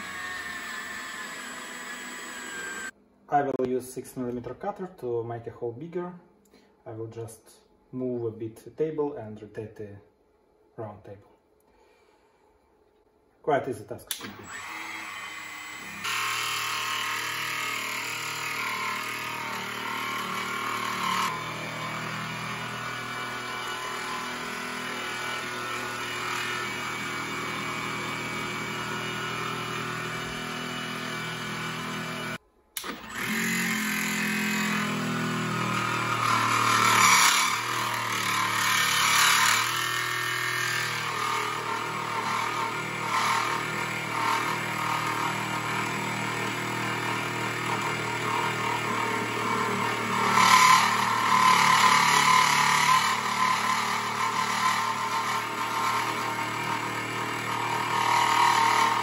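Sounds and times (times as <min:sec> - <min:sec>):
milling machine cutting metal: 0:00.0 - 0:02.9, 0:14.1 - 0:59.0.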